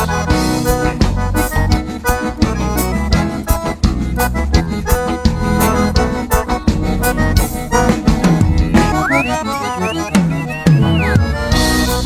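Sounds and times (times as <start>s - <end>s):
accordion playing: 0.0s - 12.0s
band playing steady beat: 0.0s - 12.0s.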